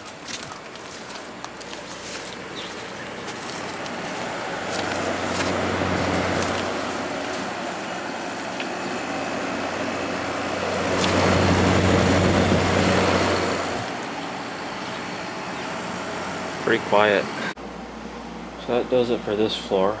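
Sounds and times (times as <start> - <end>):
air conditioner humming and rushing: 0.0 - 20.0.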